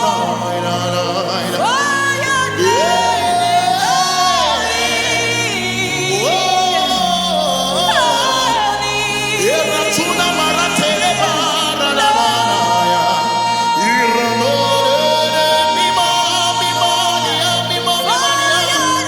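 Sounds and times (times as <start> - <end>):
sustained chords: 0.0 - 19.0.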